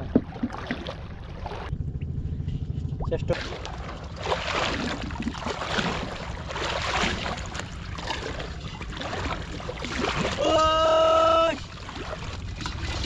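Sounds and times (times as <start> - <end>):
steady low rumble: 0.0 - 13.0
water lapping against boat hull: 0.0 - 13.0.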